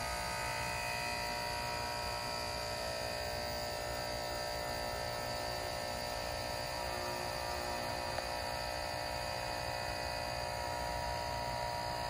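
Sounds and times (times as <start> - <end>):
air conditioner hum and whine: 0.0 - 12.0.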